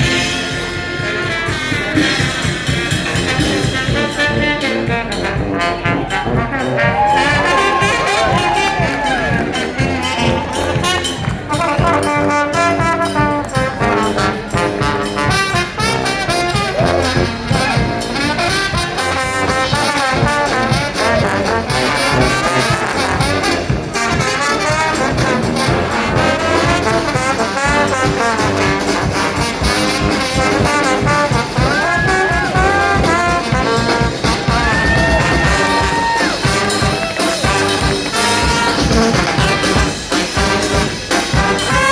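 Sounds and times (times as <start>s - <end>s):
brass band playing upbeat tune: 0.0s - 41.9s.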